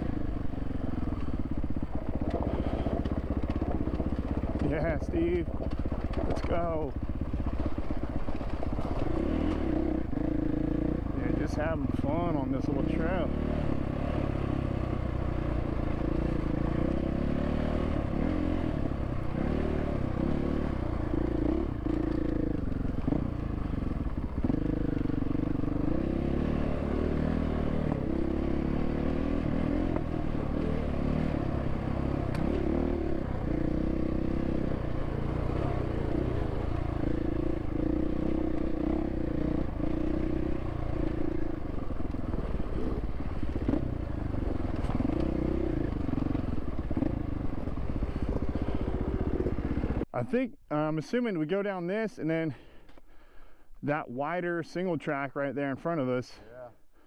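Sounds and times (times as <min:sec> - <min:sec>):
dirt bike engine revving: 0:00.0 - 0:50.1.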